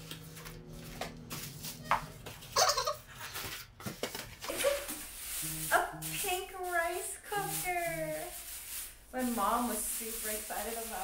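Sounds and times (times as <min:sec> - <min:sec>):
plastic bag and styrofoam rustling: 0:00.0 - 0:11.0.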